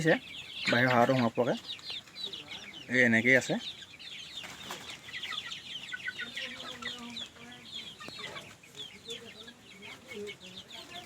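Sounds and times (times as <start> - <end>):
chickens clucking: 0.0 - 11.0
chicks cheeping: 0.0 - 11.0.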